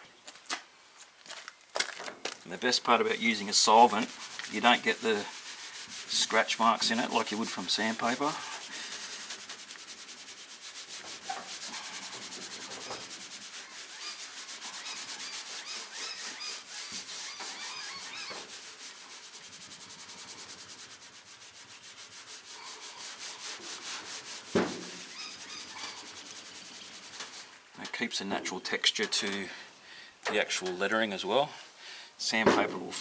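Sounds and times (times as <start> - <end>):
rag rubbing on painted metal: 2.7 - 29.5.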